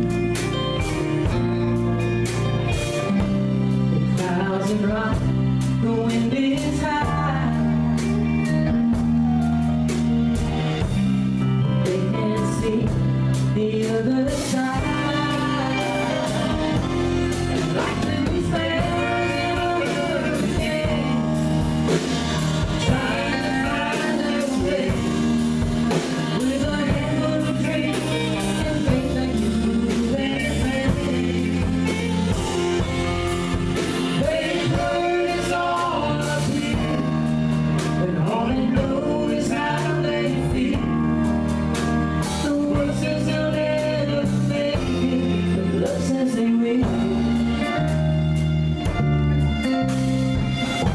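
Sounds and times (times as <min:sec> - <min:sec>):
country band playing: 0:00.0 - 0:50.9
person singing: 0:04.0 - 0:09.8, 0:10.5 - 0:41.4, 0:42.2 - 0:48.1.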